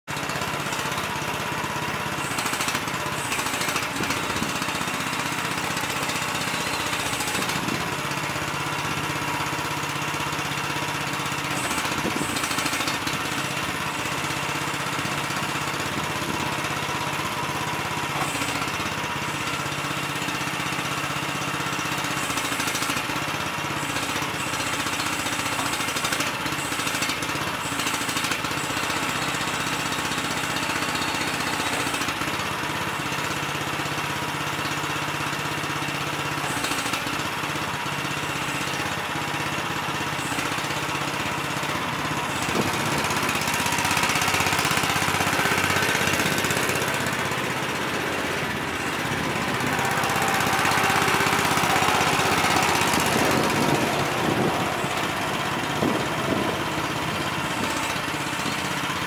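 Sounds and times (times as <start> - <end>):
mini excavator engine running: 0.1 - 59.0.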